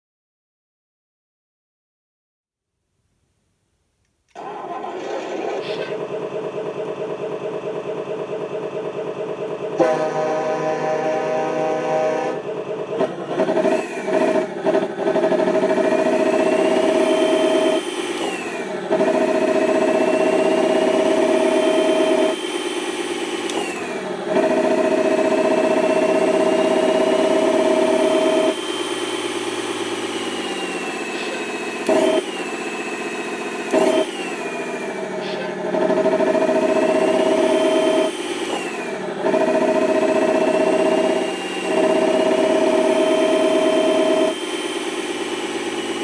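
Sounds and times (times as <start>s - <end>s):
diesel engine revving: 4.3s - 46.0s
engine whine: 4.3s - 46.0s.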